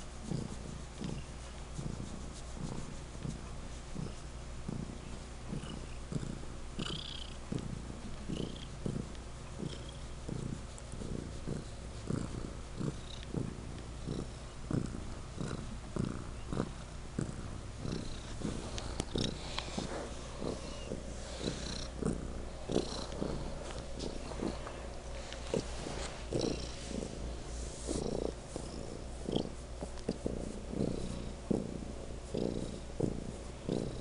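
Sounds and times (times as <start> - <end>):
cat purring loudly: 0.0 - 34.0.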